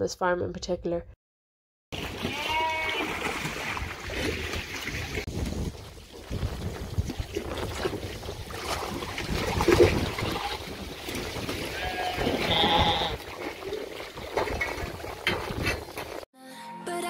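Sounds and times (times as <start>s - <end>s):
water sloshing and splashing: 1.9s - 16.3s.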